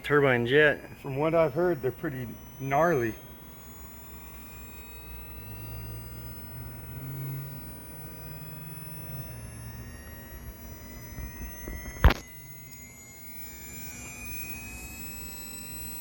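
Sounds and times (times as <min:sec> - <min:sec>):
low hum: 0:00.0 - 0:15.2
flywheel spinning up whine: 0:00.0 - 0:16.0.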